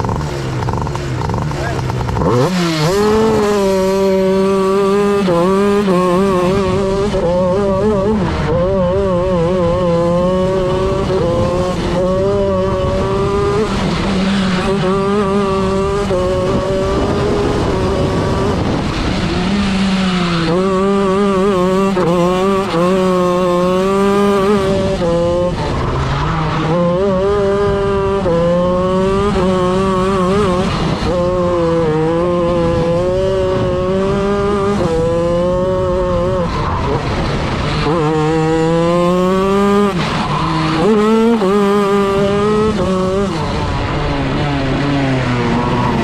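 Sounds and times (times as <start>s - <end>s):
kart engine revving: 0.0s - 46.0s.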